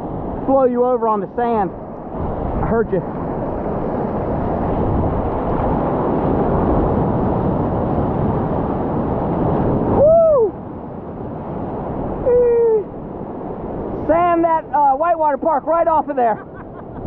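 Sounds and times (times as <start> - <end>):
breaking surf rushing: 0.0 - 17.0.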